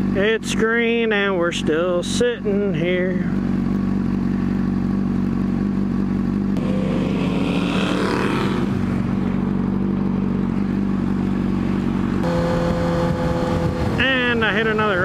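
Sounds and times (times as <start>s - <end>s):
motorcycle engine idling: 0.0s - 7.3s, 8.5s - 15.0s.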